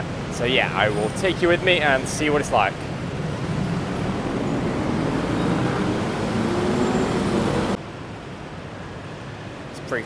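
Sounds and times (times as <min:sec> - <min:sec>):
car and motorbike engines: 0:00.0 - 0:08.1
busy road traffic: 0:00.0 - 0:10.0.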